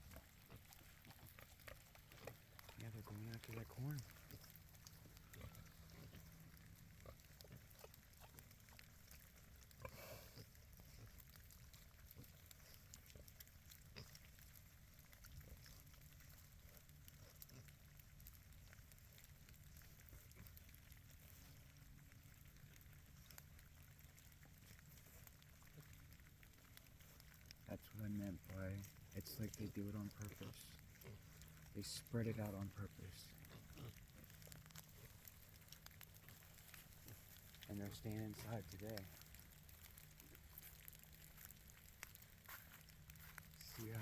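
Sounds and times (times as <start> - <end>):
pigs grunting: 0.0 - 42.3.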